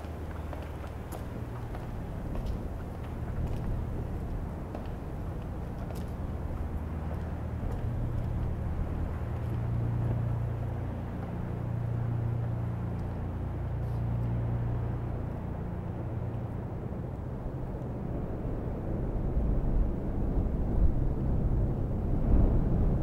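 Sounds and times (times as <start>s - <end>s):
city traffic rumble: 0.0s - 23.0s
deep hum: 3.0s - 23.0s.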